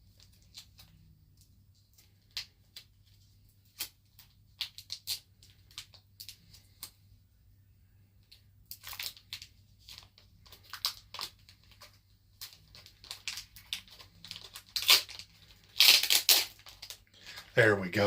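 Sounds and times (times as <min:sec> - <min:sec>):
plastic wrapper crinkling and tearing: 0:00.0 - 0:07.0, 0:08.2 - 0:18.0.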